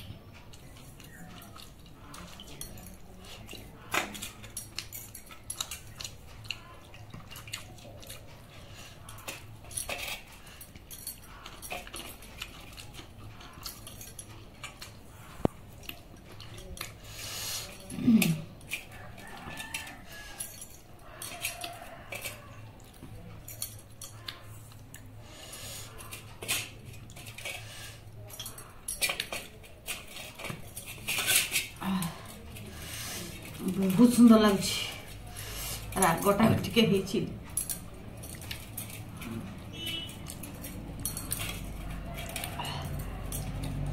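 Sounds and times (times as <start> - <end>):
eating noises: 0.0 - 36.0.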